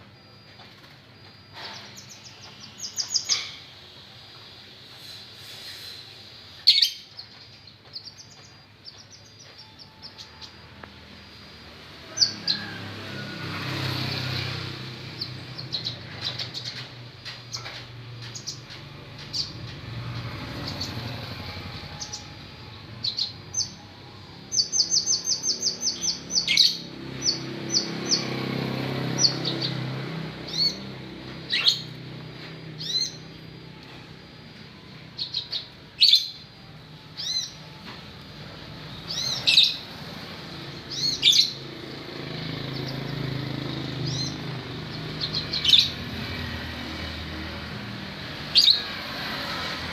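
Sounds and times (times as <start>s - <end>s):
songbird singing: 0.0s - 4.6s, 5.7s - 49.0s.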